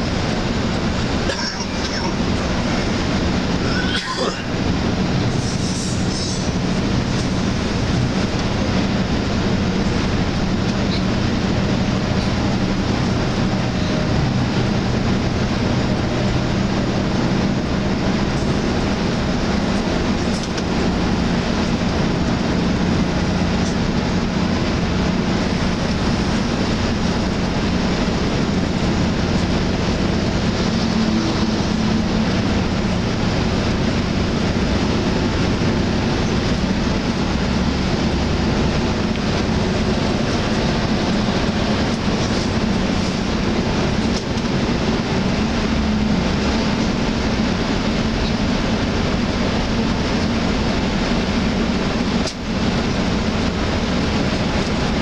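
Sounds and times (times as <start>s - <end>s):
engine drone: 0.0s - 55.0s
road and wind rush: 0.0s - 55.0s.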